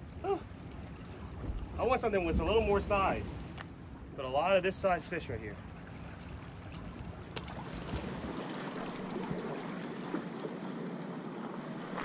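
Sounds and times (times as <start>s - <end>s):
waves lapping at rocks: 0.0s - 12.0s
wind: 0.0s - 12.0s.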